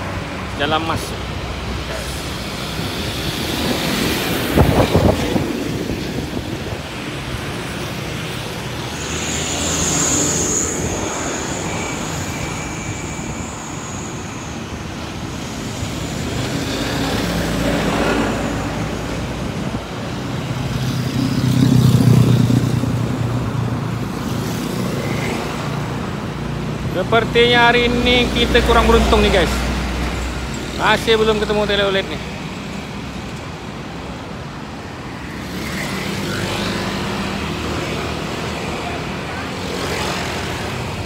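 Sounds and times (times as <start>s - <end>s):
vehicles passing on a bridge: 0.0s - 41.0s.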